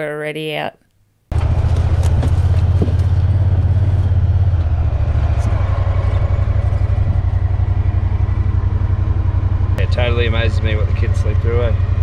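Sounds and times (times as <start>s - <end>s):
vehicle engine droning: 1.3s - 12.0s.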